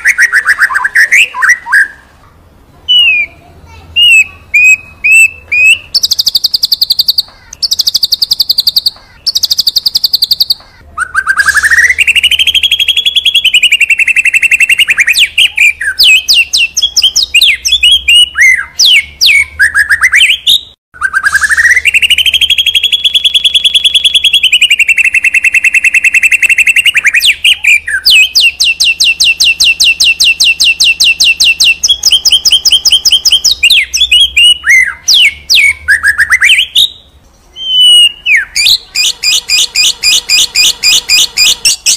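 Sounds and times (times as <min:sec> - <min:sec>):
songbird trills and whistles: 0:02.9 - 0:03.4, 0:04.0 - 0:41.9.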